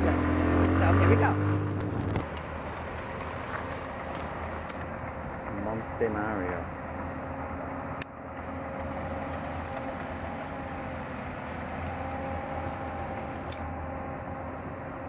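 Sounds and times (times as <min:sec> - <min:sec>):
distant city traffic rumble: 0:00.0 - 0:15.0
faint engine drone: 0:00.0 - 0:15.0.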